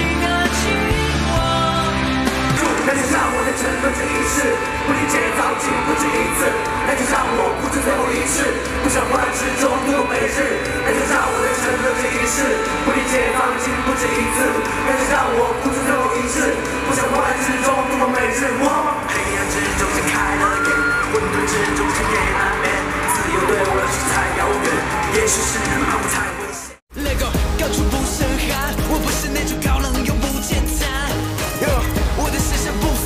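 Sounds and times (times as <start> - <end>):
live pop band: 0.0 - 33.0
young man singing fast: 0.0 - 33.0.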